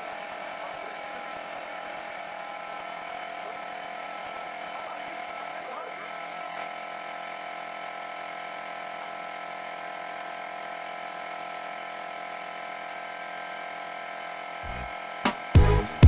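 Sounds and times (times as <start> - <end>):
machine humming and hissing: 0.0 - 16.0.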